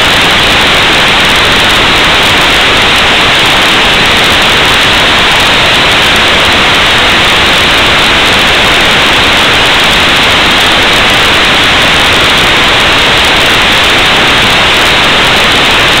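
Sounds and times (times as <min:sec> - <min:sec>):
loud static hiss: 0:00.0 - 0:16.0.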